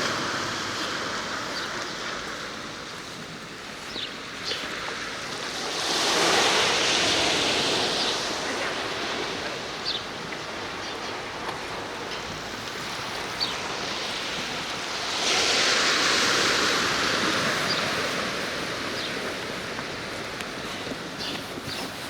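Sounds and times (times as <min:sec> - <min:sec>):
sea waves washing ashore: 0:00.0 - 0:22.0.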